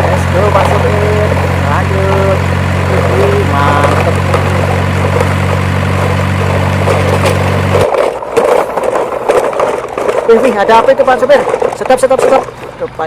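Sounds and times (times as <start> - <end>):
scraping: 0.0 - 12.9.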